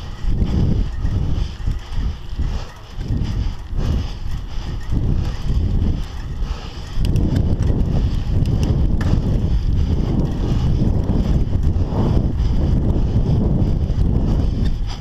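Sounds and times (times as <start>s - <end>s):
bike tyre rumble on dirt: 0.0s - 15.0s
wind buffeting microphone: 0.0s - 15.0s.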